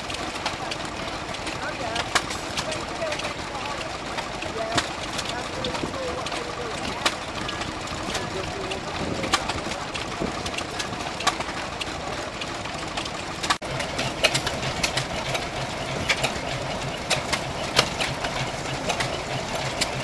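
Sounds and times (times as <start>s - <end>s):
single-cylinder engine low beat: 0.0s - 20.0s
stationary engines chattering: 0.0s - 20.0s.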